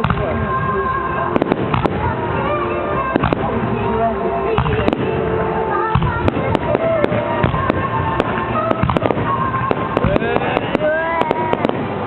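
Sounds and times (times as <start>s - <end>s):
fireworks cracking and popping: 0.0s - 3.8s, 4.5s - 12.0s.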